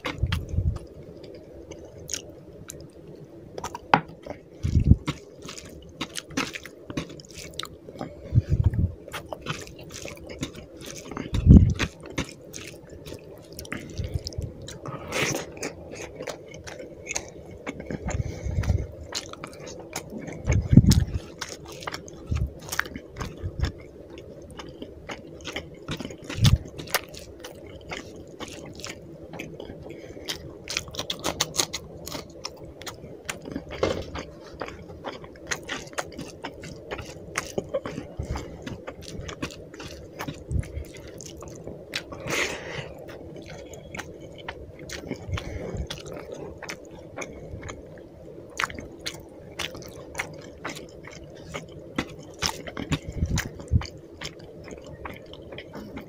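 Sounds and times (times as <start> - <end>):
wet chewing and mouth smacking: 0.0 - 3.0, 3.6 - 56.0.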